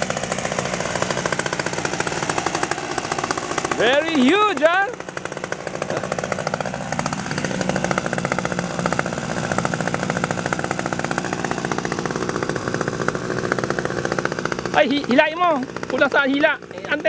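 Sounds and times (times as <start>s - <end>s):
model helicopter engine: 0.0s - 17.0s
rotor chop: 0.0s - 17.0s.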